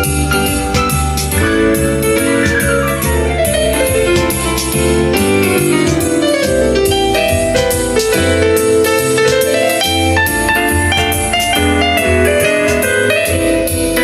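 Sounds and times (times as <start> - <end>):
bass line: 0.0 - 14.0
drums: 0.0 - 14.0
piano: 0.0 - 14.0.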